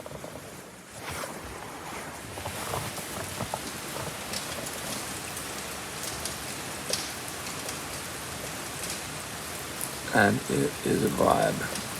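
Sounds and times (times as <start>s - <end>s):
steady rain hiss: 0.0s - 11.9s.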